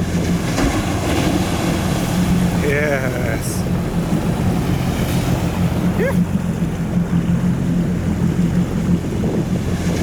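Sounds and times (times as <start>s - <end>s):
engine idling: 0.0s - 10.0s
sea noise: 0.0s - 10.0s
wind: 0.0s - 10.0s.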